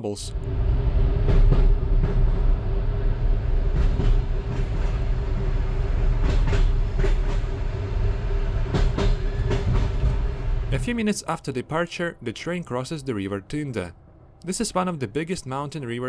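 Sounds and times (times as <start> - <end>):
train low rumble and hum: 0.0 - 16.0.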